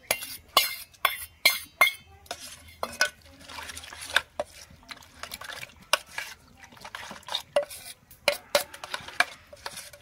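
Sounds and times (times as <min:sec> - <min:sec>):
metal spoon scraping a metal bowl: 0:00.0 - 0:10.0.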